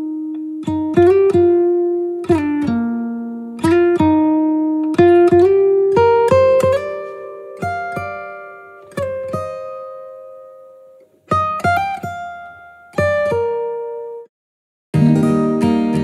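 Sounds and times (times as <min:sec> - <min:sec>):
acoustic guitar plucked notes: 0:00.0 - 0:14.3, 0:15.0 - 0:16.0.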